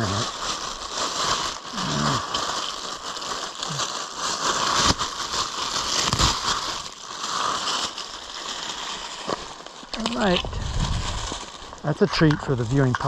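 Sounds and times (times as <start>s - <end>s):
wet balloon crinkling: 0.0s - 13.0s.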